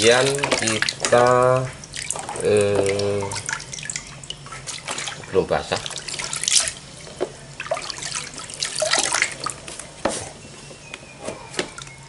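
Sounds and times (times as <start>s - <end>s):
water splashing in a plastic basin: 0.0s - 10.3s.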